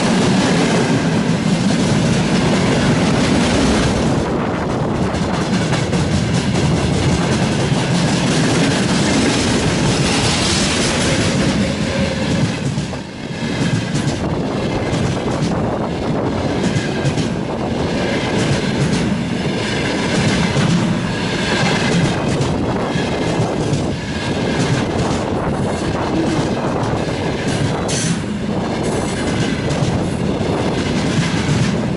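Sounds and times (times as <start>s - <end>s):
train wheels clattering over rail joints: 0.0s - 31.9s.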